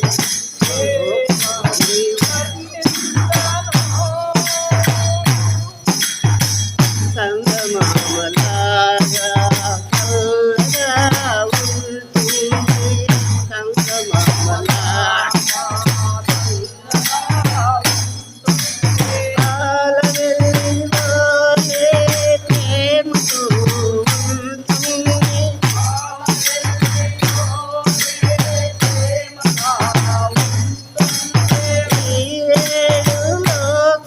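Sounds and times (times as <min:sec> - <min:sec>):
frame drum with jingles: 0:00.0 - 0:34.0.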